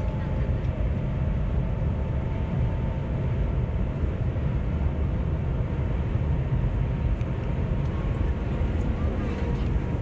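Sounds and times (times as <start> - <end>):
train cabin low rumble: 0.0 - 10.0.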